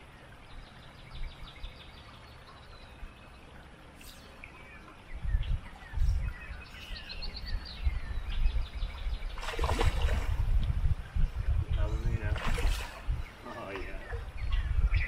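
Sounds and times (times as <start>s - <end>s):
wind rumble on microphone: 0.0s - 2.0s, 4.6s - 15.0s
songbirds chirping: 0.0s - 15.0s.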